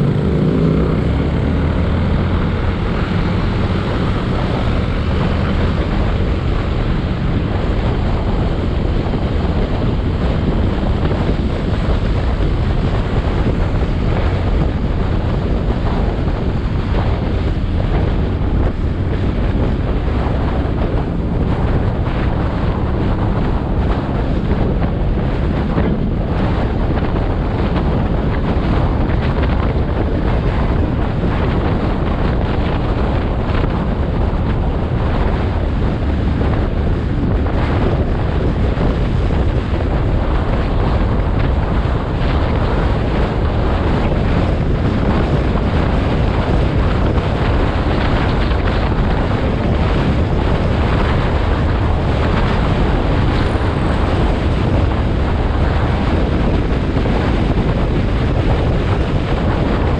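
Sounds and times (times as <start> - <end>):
wind roaring over microphone: 0.0 - 59.9.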